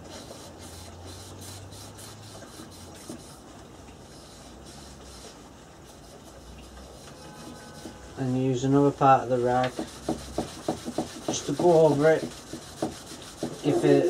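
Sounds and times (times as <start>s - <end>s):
cloth rag rubbing wood: 0.0s - 3.4s, 4.0s - 8.7s, 9.4s - 14.0s.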